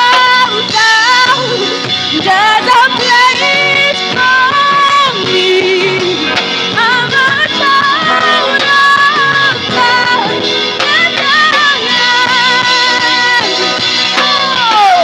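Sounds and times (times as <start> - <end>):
band with drums: 0.0 - 15.0.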